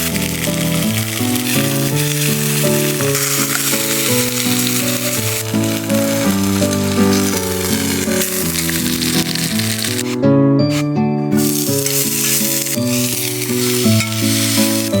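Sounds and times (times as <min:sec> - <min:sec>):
food sizzling in a skillet: 0:00.0 - 0:15.0
plucked melody music: 0:00.0 - 0:15.0.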